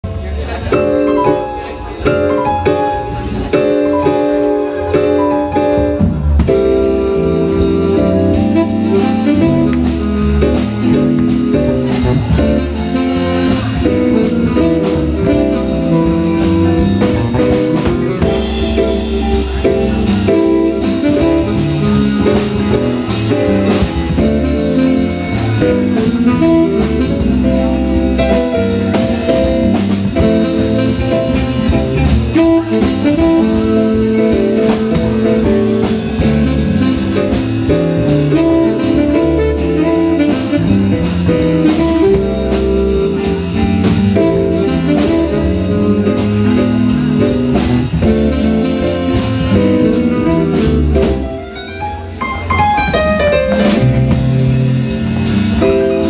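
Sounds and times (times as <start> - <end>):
drum kit beat: 0.0 - 56.0
jazz band playing: 0.0 - 56.0.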